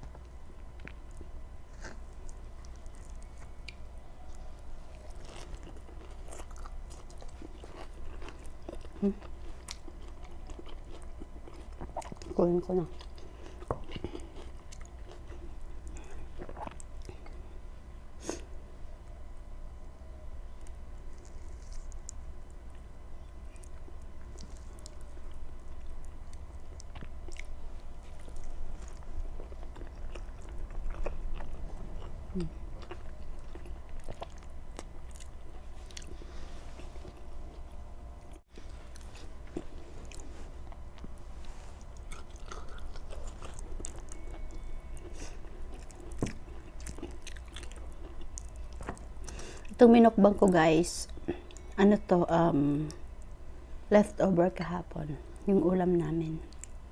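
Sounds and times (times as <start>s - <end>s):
person chewing food: 0.0s - 17.6s, 20.6s - 49.8s
low hum: 0.0s - 56.9s.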